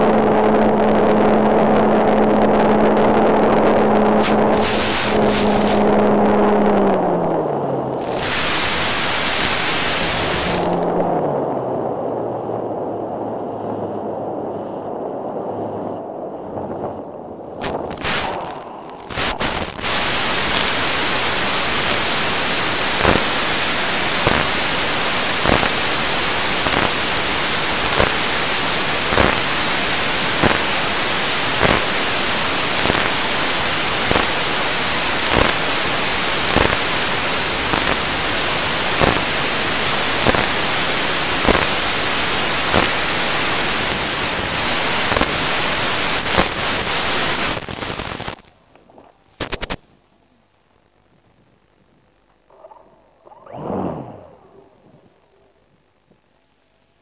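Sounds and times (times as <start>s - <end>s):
static hiss: 2.7s - 11.1s, 17.5s - 57.0s.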